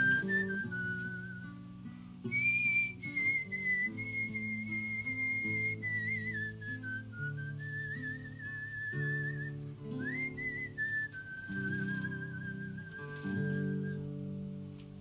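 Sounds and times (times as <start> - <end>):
man whistling a melody: 0.0 - 14.2
acoustic guitar strumming: 0.0 - 15.0.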